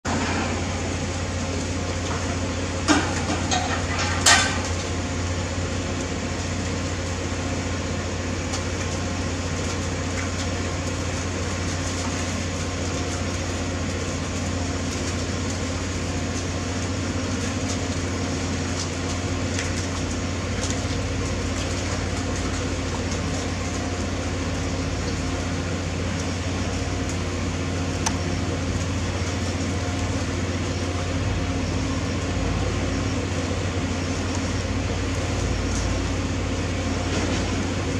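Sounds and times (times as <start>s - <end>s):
low mechanical hum with tones: 0.0s - 37.9s.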